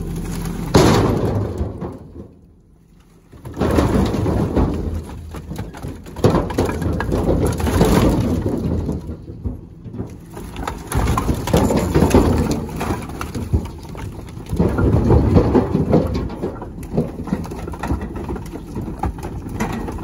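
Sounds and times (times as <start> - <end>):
firewood clattering into truck bed: 0.0 - 20.0.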